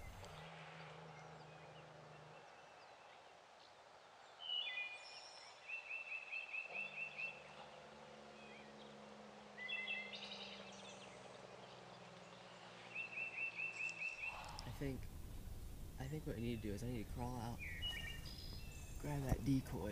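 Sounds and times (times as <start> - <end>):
songbird singing: 0.0 - 19.9.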